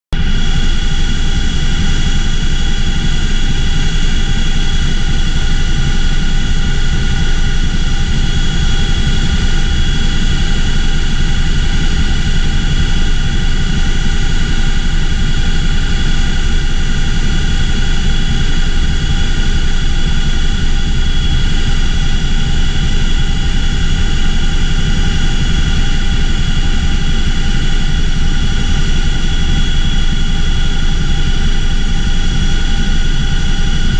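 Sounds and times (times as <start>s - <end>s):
helicopter engines and rotors droning: 0.2s - 33.9s
high-pitched transmission whine: 0.2s - 33.9s.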